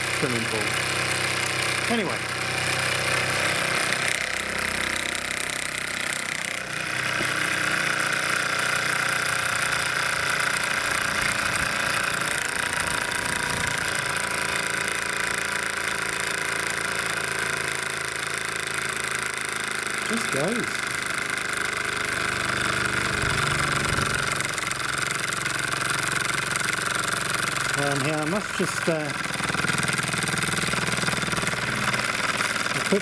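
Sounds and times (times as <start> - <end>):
model steam engine running: 0.0 - 33.0.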